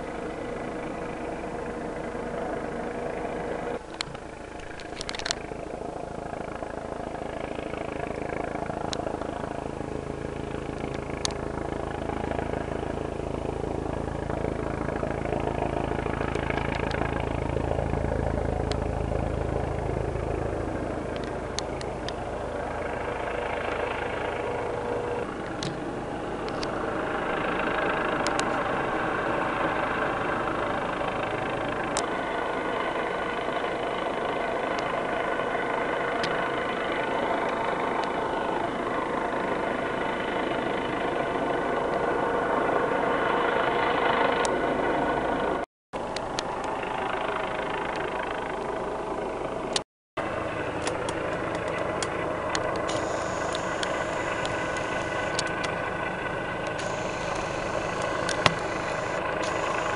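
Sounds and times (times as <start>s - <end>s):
distant helicopter hovering: 0.0s - 59.9s.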